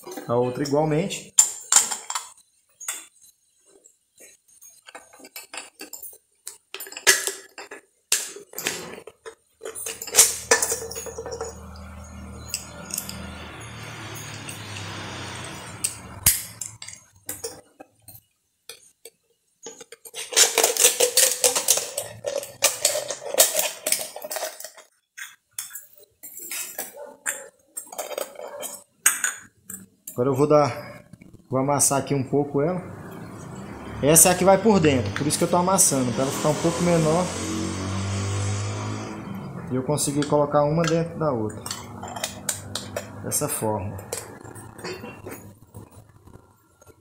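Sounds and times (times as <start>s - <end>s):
aluminium cans clinking and scraping: 0.0s - 3.6s, 4.2s - 31.5s, 34.0s - 47.0s.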